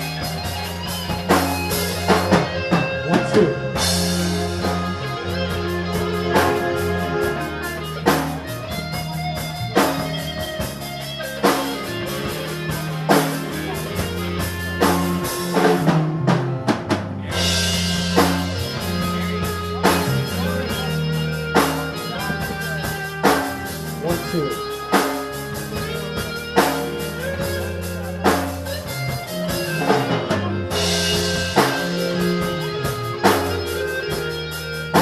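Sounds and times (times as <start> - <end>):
heavy drum accents: 0.0 - 35.0
rock music: 0.0 - 35.0.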